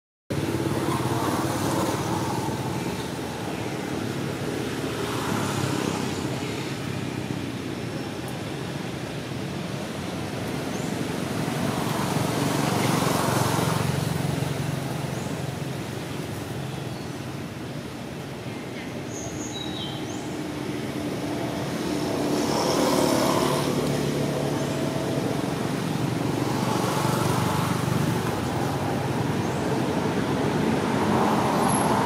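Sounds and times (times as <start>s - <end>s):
outdoor rumble and hiss: 0.3s - 32.0s.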